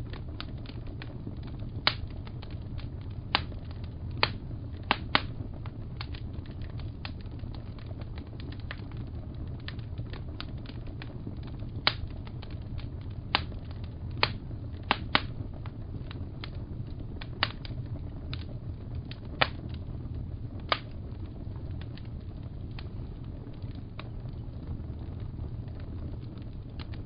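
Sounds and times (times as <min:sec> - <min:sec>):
low rumble: 0:00.0 - 0:27.0
wood fire crackling: 0:00.0 - 0:27.0.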